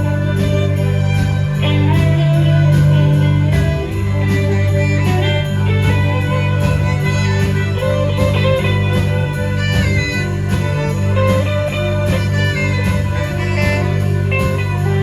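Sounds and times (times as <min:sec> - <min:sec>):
guitar lines: 0:00.0 - 0:15.0
steady drumbeat: 0:00.0 - 0:15.0
sustained bass notes: 0:00.0 - 0:15.0.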